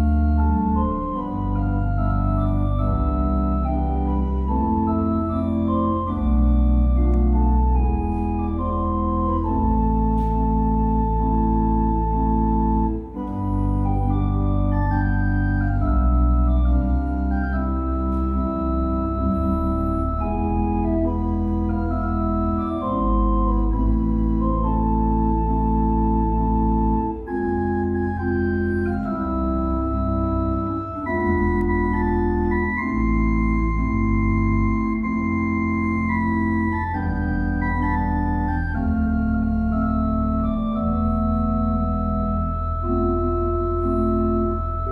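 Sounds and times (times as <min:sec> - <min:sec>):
pipe organ playing chords: 0:00.0 - 0:44.9.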